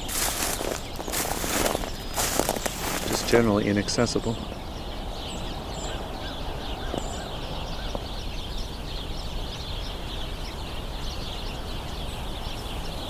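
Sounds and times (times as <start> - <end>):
flock of sparrows chattering: 0.0 - 13.0.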